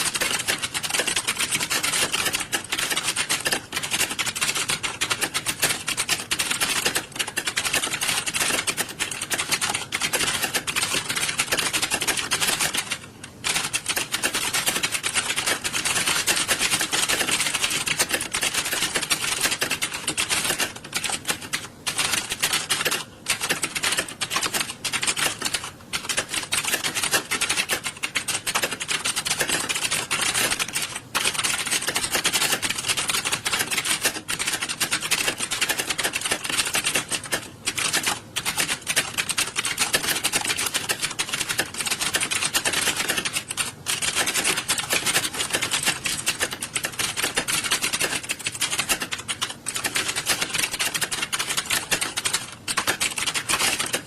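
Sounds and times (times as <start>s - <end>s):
keyboards clattering: 0.0s - 54.0s.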